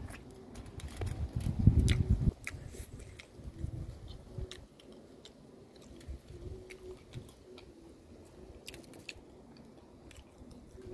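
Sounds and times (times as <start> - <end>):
faint chewing: 0.0 - 10.9.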